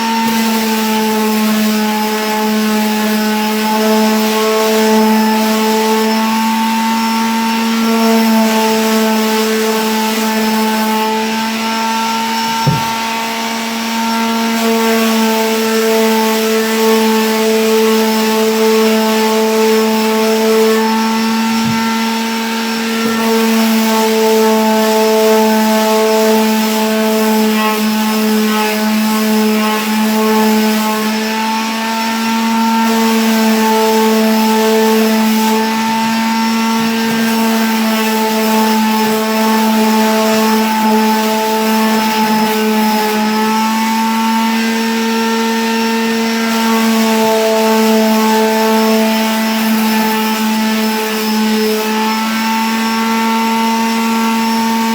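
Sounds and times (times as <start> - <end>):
electric sander running: 0.0 - 54.9.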